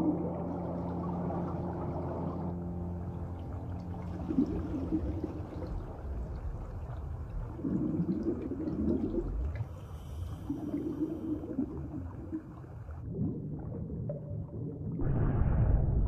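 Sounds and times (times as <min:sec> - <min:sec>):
muffled underwater rumble with gurgling: 0:00.0 - 0:16.0.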